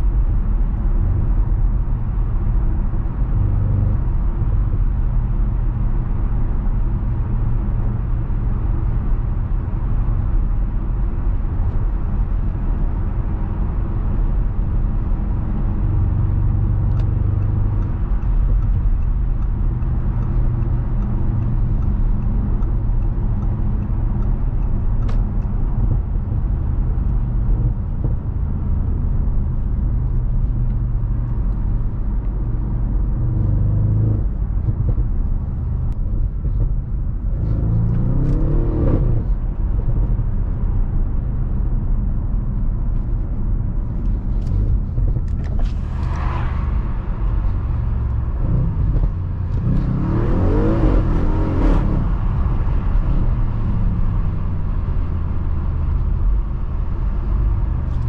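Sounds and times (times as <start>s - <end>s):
car engine running steadily: 0.0s - 58.0s
low road rumble: 0.0s - 58.0s.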